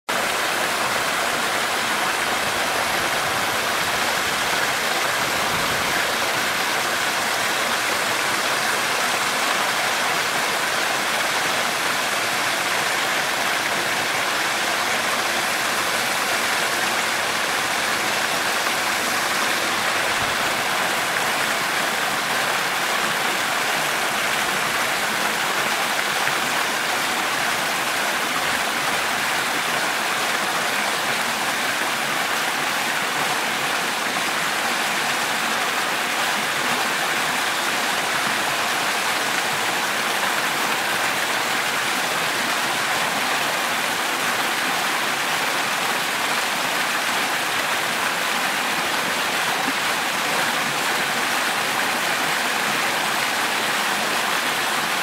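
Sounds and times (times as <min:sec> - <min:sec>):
waterfall and rushing stream: 0:00.1 - 0:55.0.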